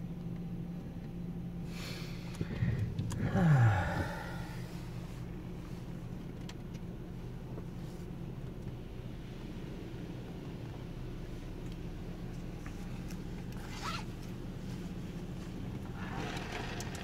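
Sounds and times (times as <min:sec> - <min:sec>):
car wash machinery whirring: 0:00.0 - 0:17.0
low hum: 0:00.0 - 0:17.0.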